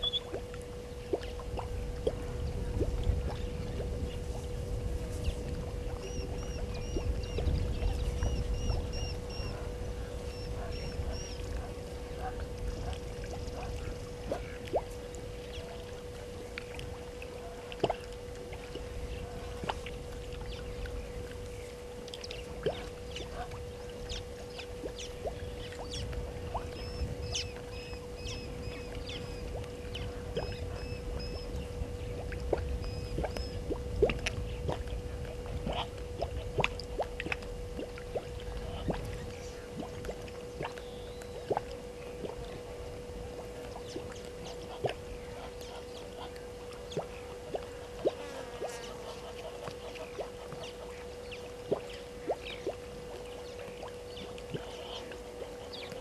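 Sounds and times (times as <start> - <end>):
low wind rumble: 0.0 - 48.3
low hum: 0.0 - 56.0.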